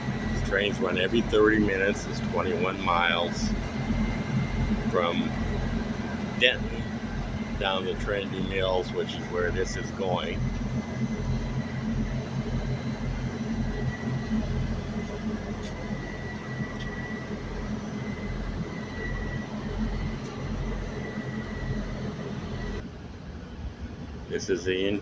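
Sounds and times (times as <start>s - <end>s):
thin high whine: 0.0s - 22.9s
train engine low rumble: 0.0s - 25.0s.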